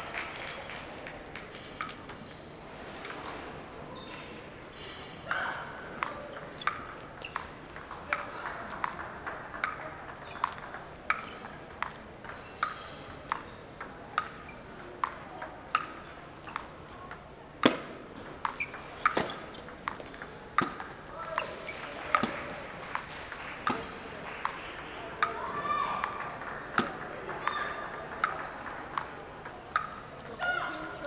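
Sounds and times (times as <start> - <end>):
table tennis ball clicks: 1.6 - 2.4, 5.8 - 31.0.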